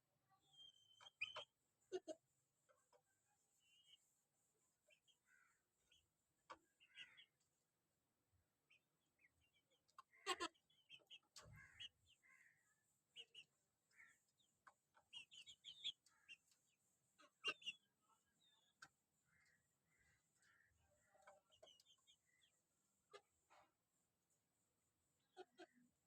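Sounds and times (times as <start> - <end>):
chickens clucking: 0.6 - 7.6, 8.7 - 24.4, 25.0 - 26.0.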